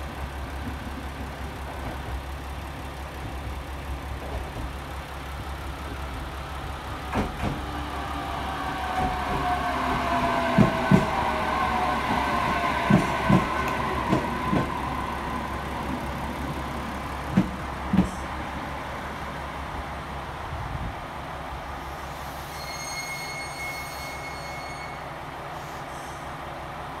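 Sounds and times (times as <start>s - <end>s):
train running rumble: 0.0s - 22.3s.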